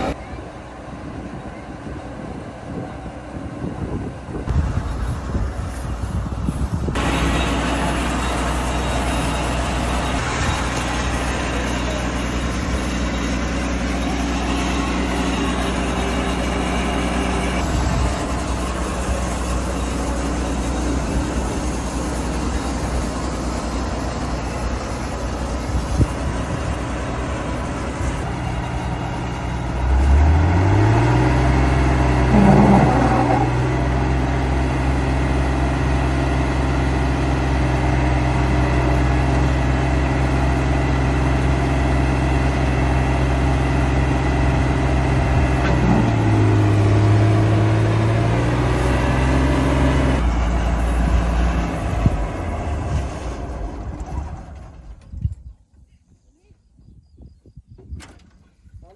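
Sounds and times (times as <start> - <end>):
diesel engine revving: 0.0 - 0.2, 4.2 - 55.0.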